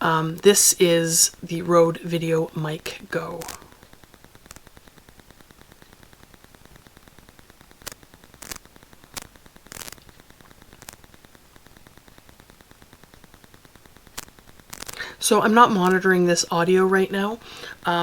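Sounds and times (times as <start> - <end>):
faint fast ticking: 0.0 - 18.0
microphone hiss: 0.0 - 18.0
sharp electrical pops: 0.0 - 18.0.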